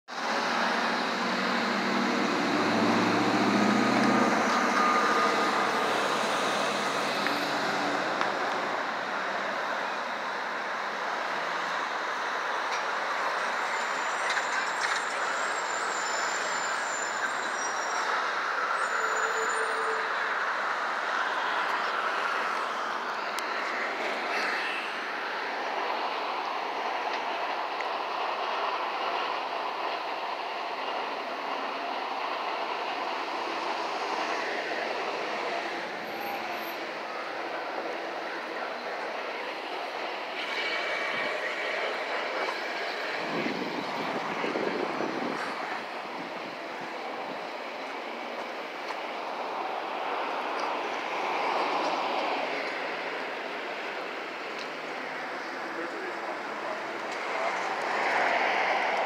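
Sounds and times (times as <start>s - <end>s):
passing vehicles: 0.1s - 59.0s.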